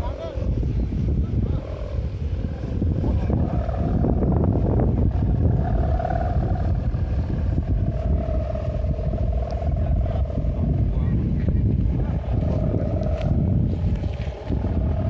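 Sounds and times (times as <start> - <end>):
droning hum: 0.0 - 15.0
wind buffeting microphone: 0.0 - 15.0.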